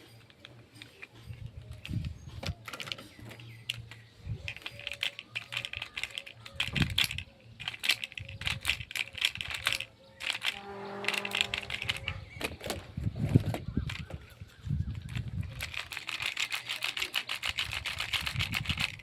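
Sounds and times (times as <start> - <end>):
plastic toy pieces clattering: 0.0 - 19.0.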